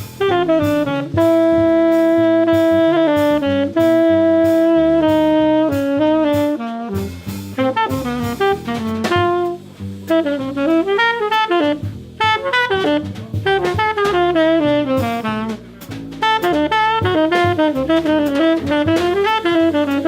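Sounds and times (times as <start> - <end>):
double bass: 0.0 - 20.0
drum kit with cymbals: 0.0 - 20.0
tenor saxophone: 0.0 - 20.0.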